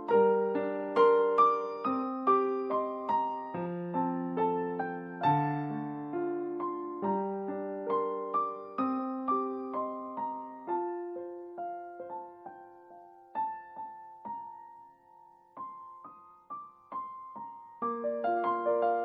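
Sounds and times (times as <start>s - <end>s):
soft solo piano: 0.0s - 19.0s.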